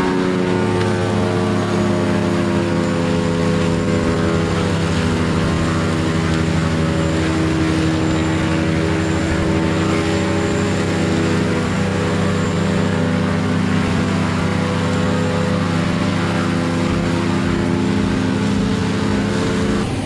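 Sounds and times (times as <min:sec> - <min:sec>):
large vehicle engine droning: 0:00.0 - 0:20.0.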